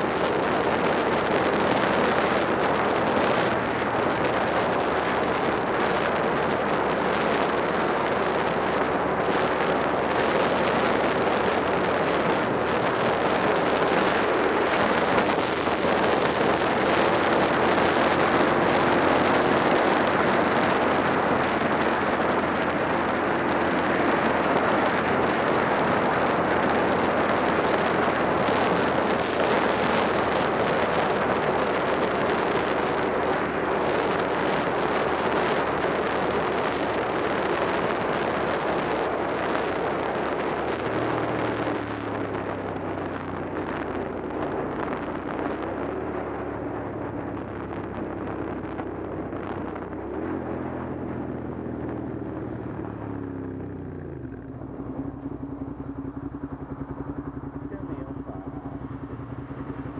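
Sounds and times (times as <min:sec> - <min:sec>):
motorcycle engine drone: 0:00.0 - 0:59.9
wind rushing over microphone: 0:00.0 - 0:59.9.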